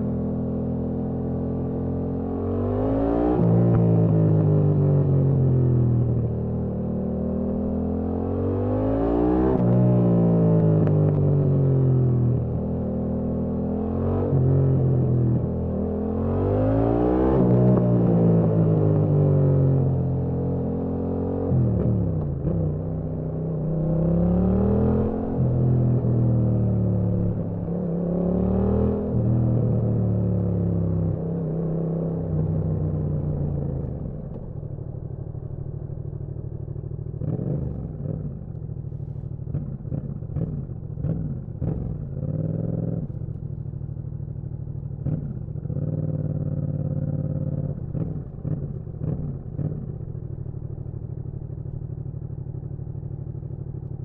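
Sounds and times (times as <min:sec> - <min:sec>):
motorcycle engine revving: 0:00.6 - 0:35.6, 0:36.2 - 0:54.0.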